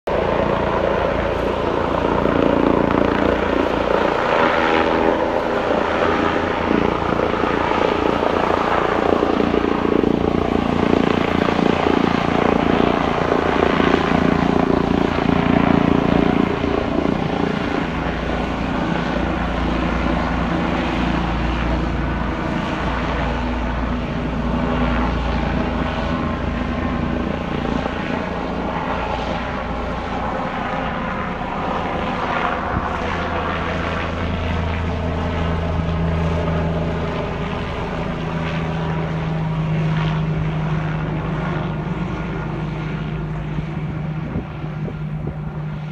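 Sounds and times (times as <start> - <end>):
helicopter taking off: 0.1 - 45.9.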